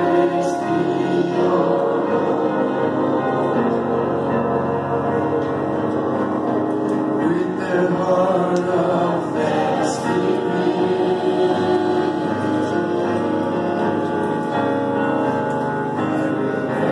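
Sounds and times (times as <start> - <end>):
congregation singing: 0.0 - 16.9.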